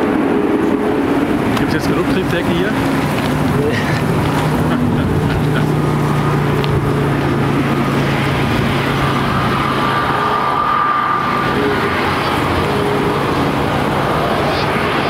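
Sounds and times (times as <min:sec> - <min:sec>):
high engine whine: 0:00.0 - 0:15.0
jet engines rumbling: 0:00.0 - 0:15.0.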